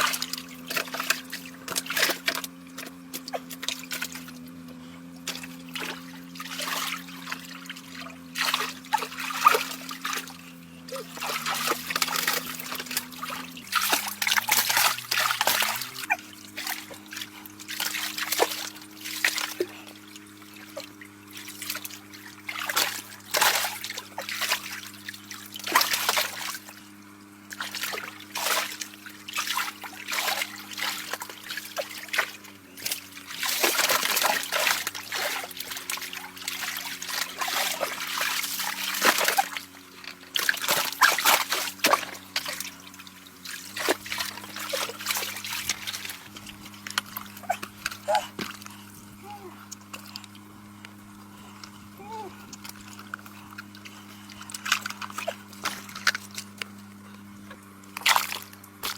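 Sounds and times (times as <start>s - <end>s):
shallow water splashing: 0.0s - 58.9s
steady low hum: 0.0s - 58.9s.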